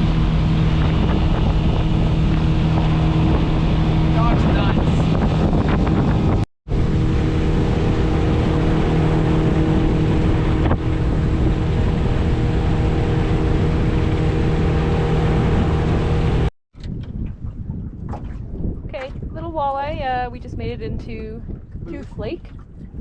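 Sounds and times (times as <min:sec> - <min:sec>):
boat motor running: 0:00.0 - 0:23.0
wind buffeting microphone: 0:00.0 - 0:23.0.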